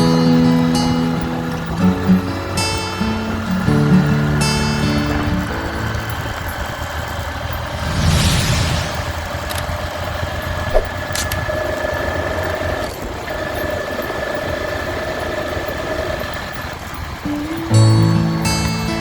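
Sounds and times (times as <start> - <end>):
constant whine: 0.0 - 19.0
motorcycle engine running: 0.0 - 19.0.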